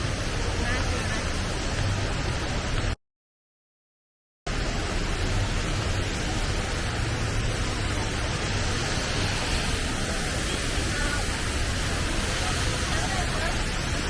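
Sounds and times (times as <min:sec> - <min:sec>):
waterfall roaring: 0:00.0 - 0:03.0, 0:04.5 - 0:14.0.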